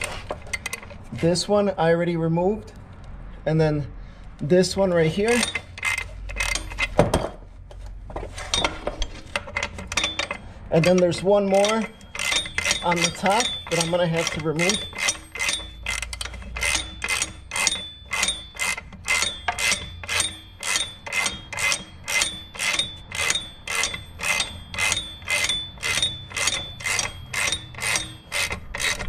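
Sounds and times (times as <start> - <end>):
ratcheting wrench rasping: 0.0 - 1.4, 4.9 - 7.1, 8.4 - 29.0.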